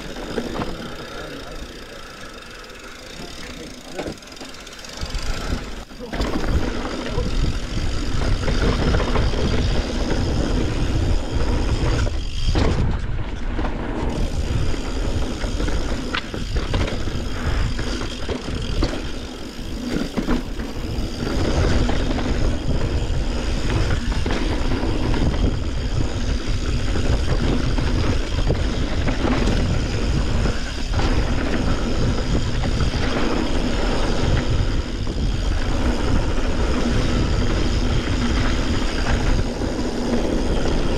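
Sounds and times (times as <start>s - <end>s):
bike rattling: 0.0s - 40.9s
wind buffeting microphone: 5.0s - 40.9s.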